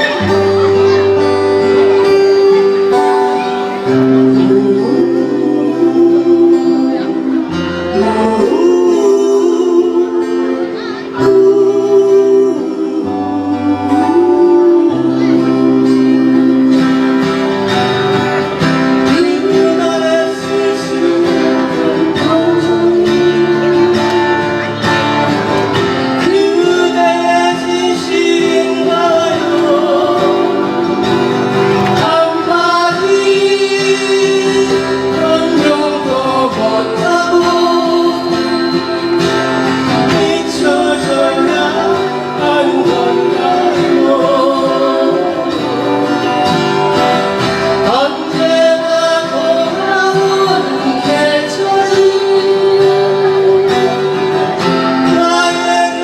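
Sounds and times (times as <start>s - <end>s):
acoustic guitars playing: 0.0s - 56.0s
person singing: 0.0s - 56.0s.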